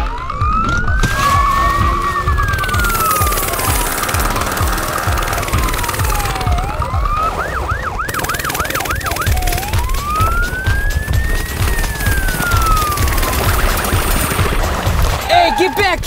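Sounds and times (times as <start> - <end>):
police siren: 0.0 - 15.9.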